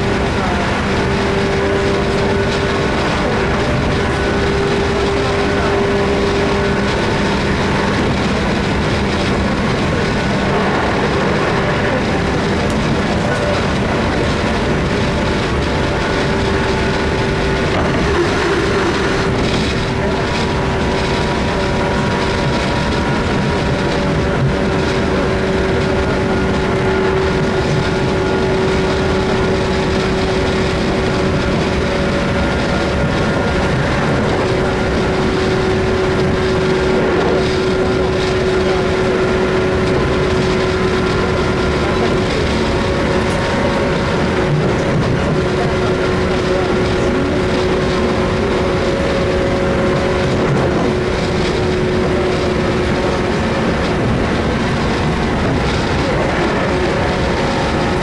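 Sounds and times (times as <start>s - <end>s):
wheels rumbling on rails: 0.0s - 58.0s
electric train motor whine: 7.9s - 58.0s.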